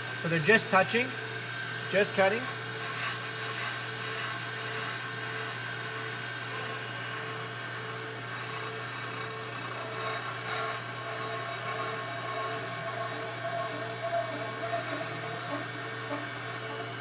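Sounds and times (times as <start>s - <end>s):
brake lathe motor hum: 0.0s - 17.0s
cutting tips scraping rotor: 1.8s - 17.0s.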